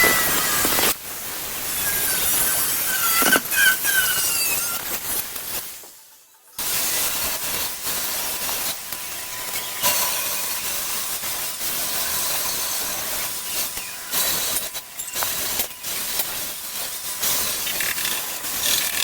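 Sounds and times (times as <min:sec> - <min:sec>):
welding arc crackling and hissing: 0:00.0 - 0:19.0.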